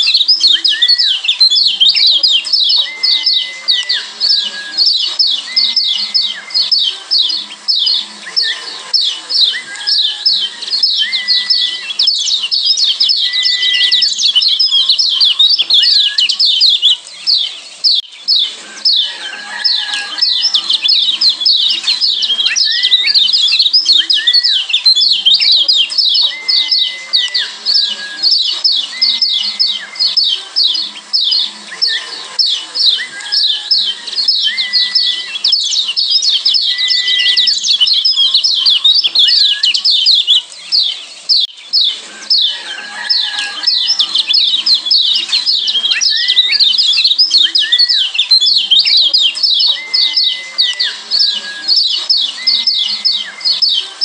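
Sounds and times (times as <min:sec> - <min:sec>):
high falling bird chirps: 0:00.0 - 0:54.0.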